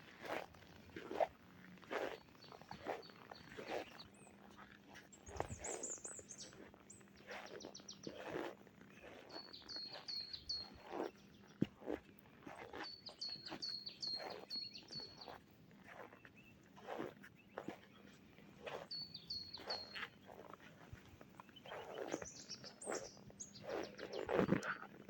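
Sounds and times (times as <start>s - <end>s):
footsteps crunching in snow: 0.0s - 25.0s
songbirds chirping: 0.5s - 25.0s.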